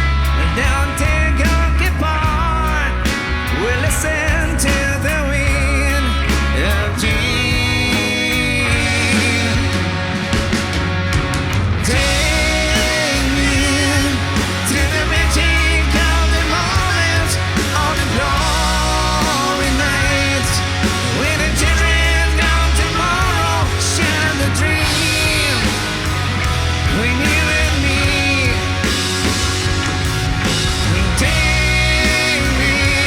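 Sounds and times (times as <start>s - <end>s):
electric guitar lead melody: 0.0s - 33.0s
rock band playing: 0.0s - 33.0s.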